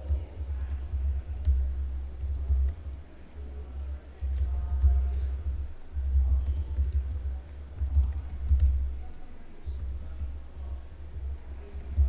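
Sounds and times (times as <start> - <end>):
computer keyboard typing: 0.0 - 3.0, 4.2 - 8.8, 9.7 - 12.0.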